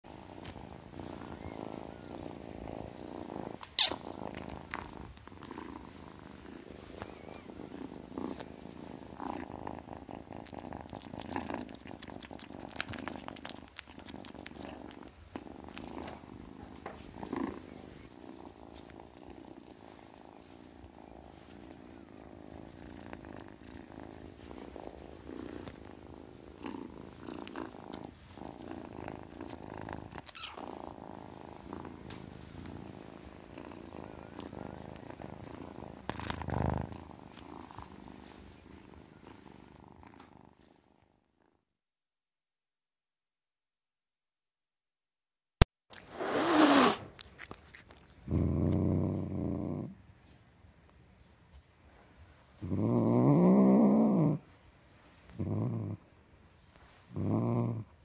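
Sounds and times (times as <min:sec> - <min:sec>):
kitten purring: 0:00.0 - 0:41.7, 0:45.9 - 0:50.3, 0:52.1 - 0:58.0.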